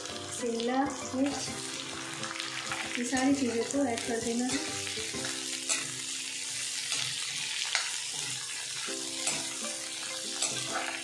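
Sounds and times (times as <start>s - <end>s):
vegetables sizzling in oil: 0.0s - 11.0s
metal ladle scraping pan: 1.7s - 11.0s.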